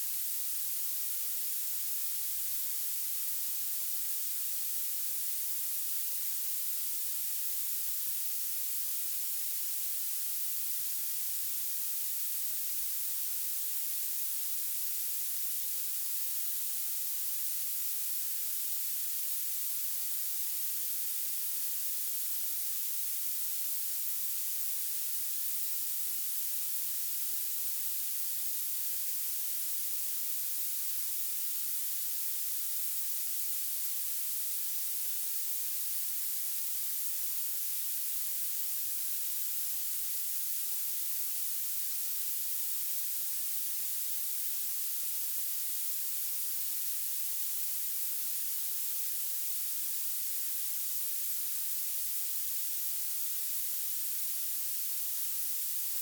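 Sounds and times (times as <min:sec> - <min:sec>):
high-pitched steady hiss: 0:00.0 - 0:56.0.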